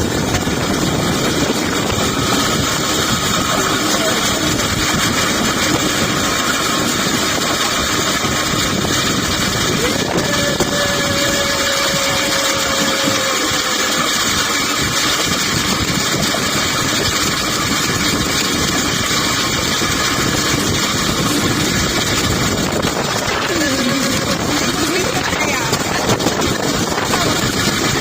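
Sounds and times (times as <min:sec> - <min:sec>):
rail bike wheels rumbling on rails: 0:00.0 - 0:28.0.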